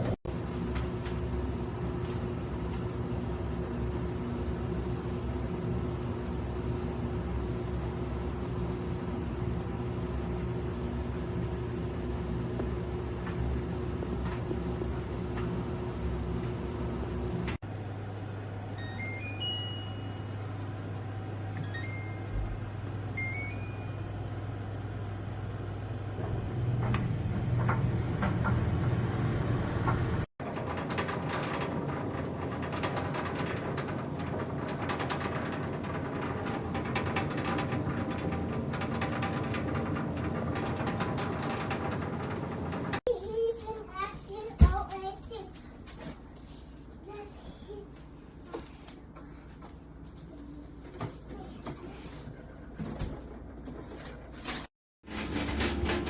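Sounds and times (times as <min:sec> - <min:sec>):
clothes dryer motor hum: 0:00.0 - 0:45.4, 0:46.2 - 0:56.0.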